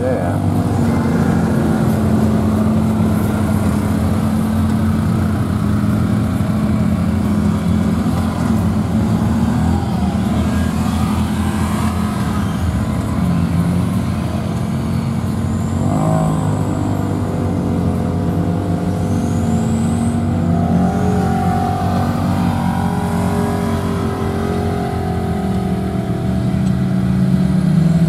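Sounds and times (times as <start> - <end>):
off-road vehicle engines running: 0.0 - 28.0.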